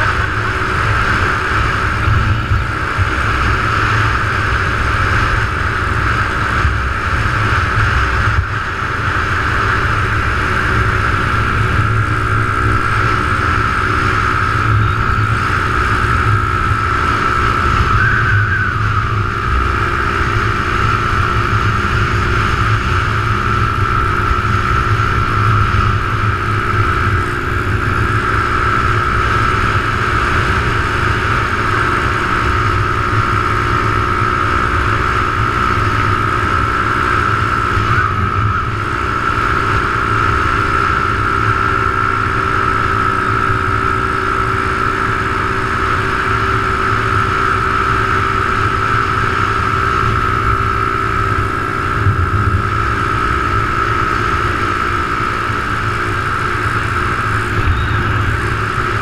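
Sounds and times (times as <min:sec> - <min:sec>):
small motorbike engine whine: 0:00.0 - 0:59.0
wind rumble: 0:00.0 - 0:59.0.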